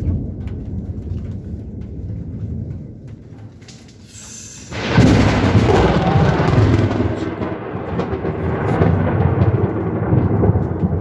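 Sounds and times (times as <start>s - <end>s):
rolling thunder: 0.0s - 11.0s.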